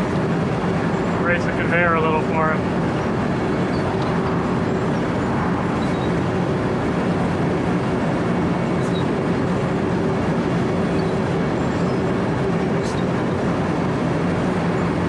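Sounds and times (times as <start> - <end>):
cutting drum grinding asphalt: 0.0 - 15.0
diesel engine humming: 0.0 - 15.0.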